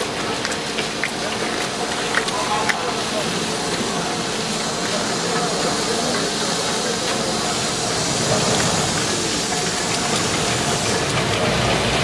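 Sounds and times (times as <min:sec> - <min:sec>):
steam venting hiss: 0:00.0 - 0:12.0.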